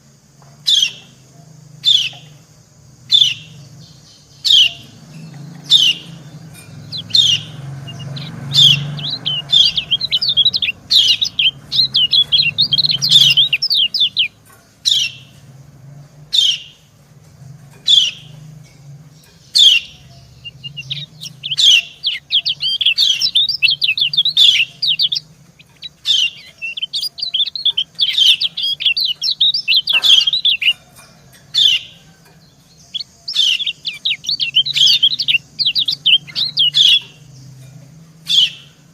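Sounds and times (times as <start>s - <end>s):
rapid high bird twittering: 0.0s - 38.9s.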